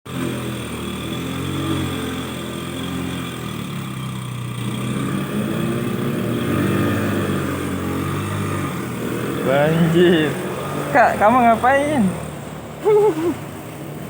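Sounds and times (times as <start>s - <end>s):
vehicle engine running: 0.1s - 14.0s.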